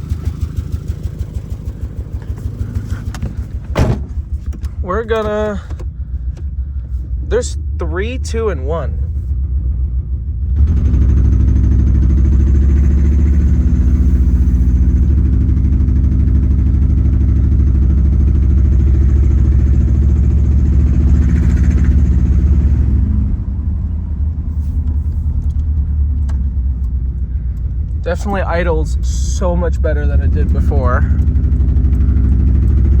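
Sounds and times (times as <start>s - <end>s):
engine idling without muffler: 0.0s - 33.0s.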